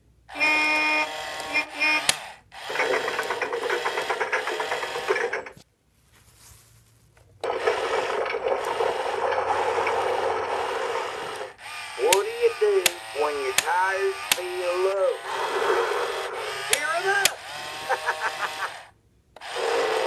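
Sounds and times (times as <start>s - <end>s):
plastic toy mechanism whirring: 0.3s - 5.6s, 7.4s - 20.0s.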